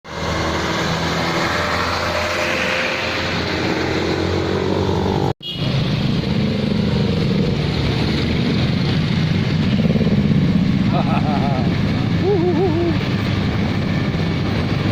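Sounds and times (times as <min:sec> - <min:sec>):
car engines passing: 0:00.1 - 0:14.9
motorcycle engines passing: 0:00.1 - 0:14.9.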